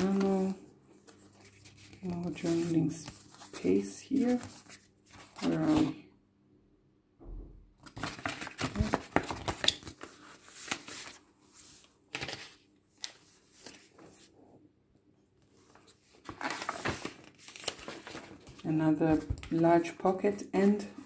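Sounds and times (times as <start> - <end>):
paper rustling and crinkling: 0.0 - 6.0, 7.8 - 14.4, 15.4 - 21.0.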